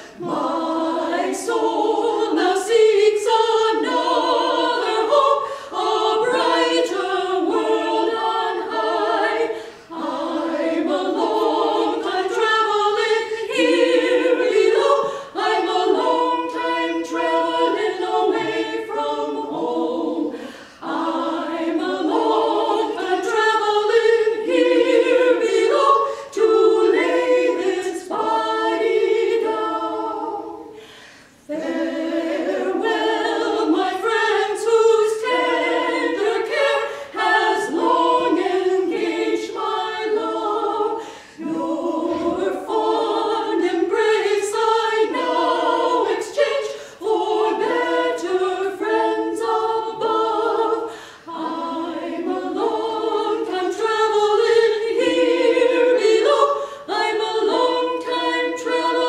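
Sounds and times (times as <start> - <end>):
women singing in harmony: 0.0 - 59.0.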